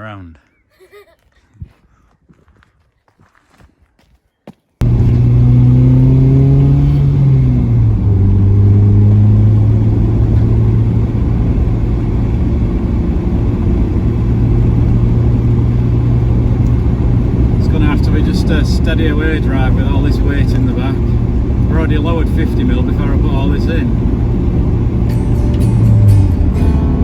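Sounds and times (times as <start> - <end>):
car engine driving: 4.8 - 27.0
road rumble: 4.8 - 27.0.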